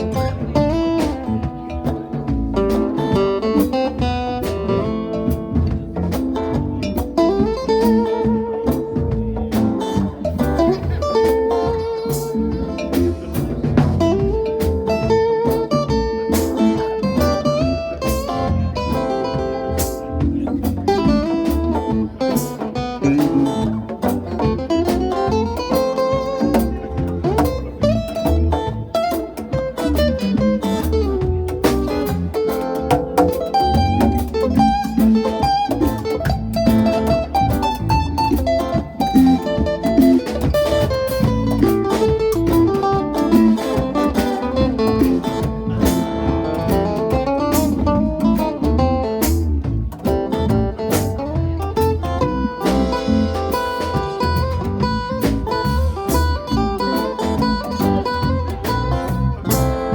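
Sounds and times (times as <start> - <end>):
bass and drums: 0.0 - 59.9
lead guitar solo: 0.0 - 59.9.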